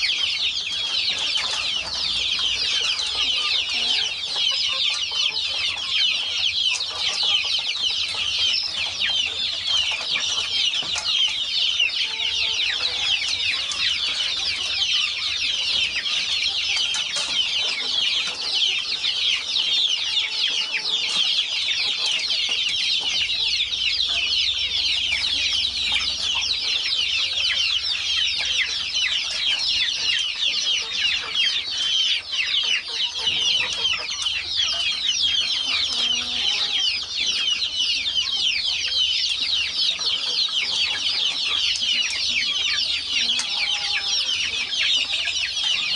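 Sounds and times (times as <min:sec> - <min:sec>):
chickens cheeping and clucking: 0:00.0 - 0:45.9.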